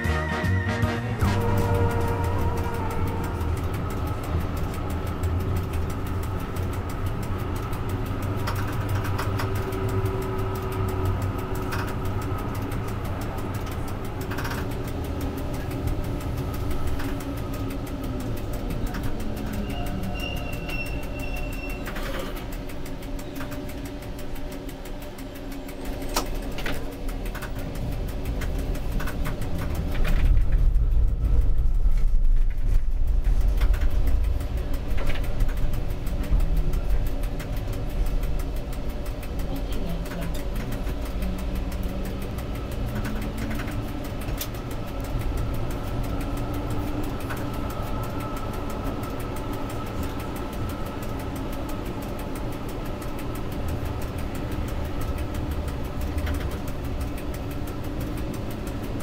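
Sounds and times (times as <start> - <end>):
tram rumble and motor hum: 0.0 - 59.0
clicks from rails: 1.4 - 59.0.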